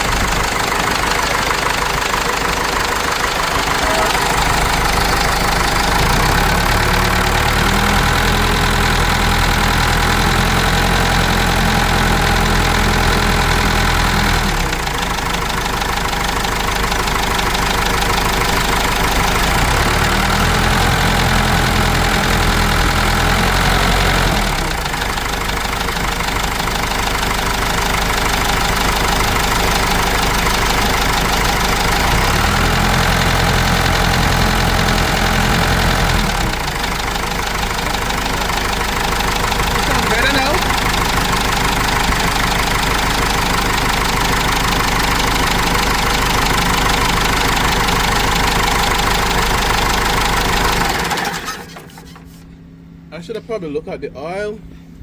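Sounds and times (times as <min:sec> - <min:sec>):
engine knock: 0:00.0 - 0:52.3
diesel forklift engine running: 0:00.0 - 0:53.3.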